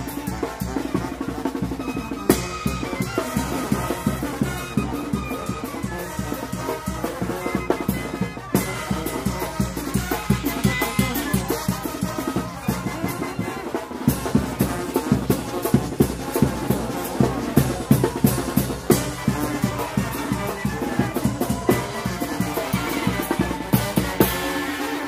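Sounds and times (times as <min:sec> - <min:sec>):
bass drum and snare beat: 0:00.0 - 0:24.9
brass band playing dance tune: 0:00.0 - 0:25.0.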